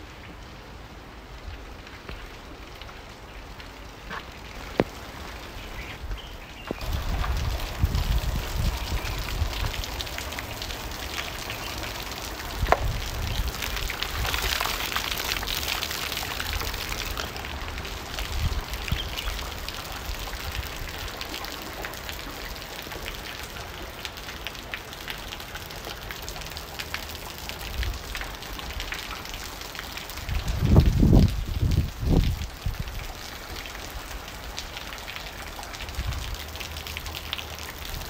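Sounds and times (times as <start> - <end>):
heavy rain splashing: 0.0 - 38.0.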